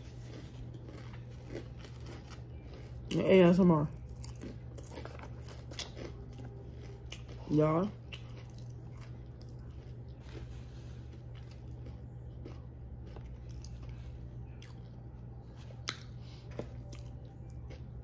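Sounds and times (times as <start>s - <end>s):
faint chewing mouth sounds: 0.0s - 3.2s, 4.0s - 18.0s
steady low hum: 0.0s - 18.0s.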